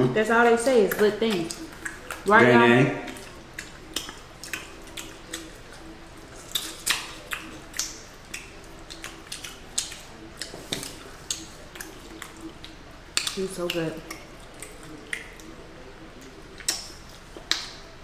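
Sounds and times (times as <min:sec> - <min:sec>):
wet chewing and lip smacks: 0:00.6 - 0:02.3, 0:03.0 - 0:18.0.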